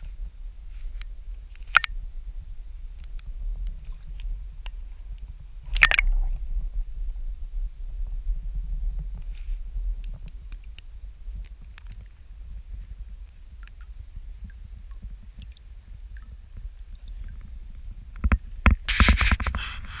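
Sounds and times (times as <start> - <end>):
low steady rumble: 0.0 - 18.9.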